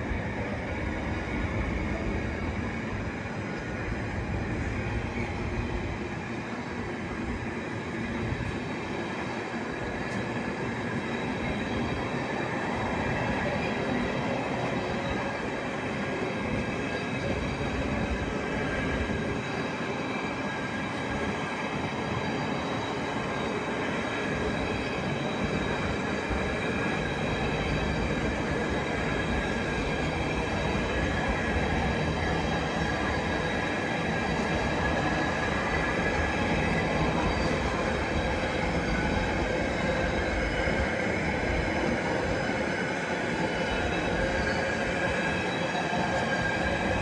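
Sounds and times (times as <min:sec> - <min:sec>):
train rumbling and rattling: 0:00.0 - 0:47.0.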